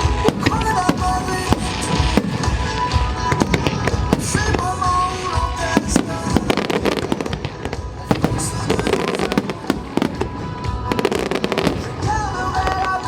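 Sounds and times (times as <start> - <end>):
fireworks bangs: 0.0 - 13.0
melodic music: 0.0 - 13.0.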